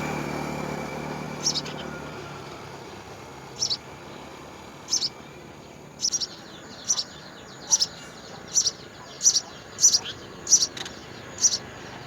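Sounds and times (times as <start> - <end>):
sparrow chirping: 0.9 - 2.2, 2.8 - 12.0.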